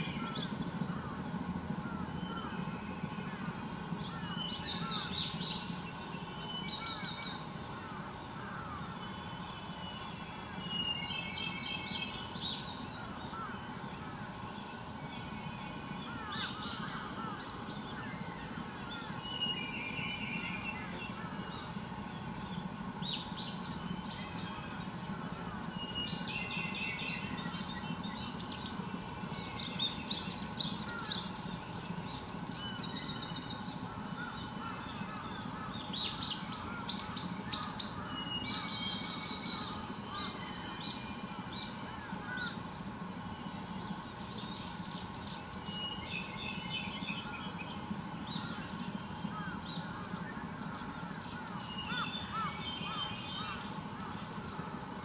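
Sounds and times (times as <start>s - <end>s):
steady low hum: 0.0s - 55.0s
wild birds chirping and trilling: 0.0s - 55.0s.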